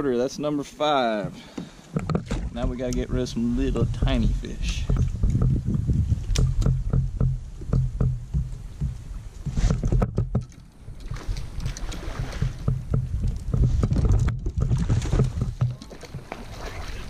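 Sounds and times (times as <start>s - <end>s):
background noise: 0.0s - 17.0s
knocks and bumps on kayak: 1.5s - 17.0s.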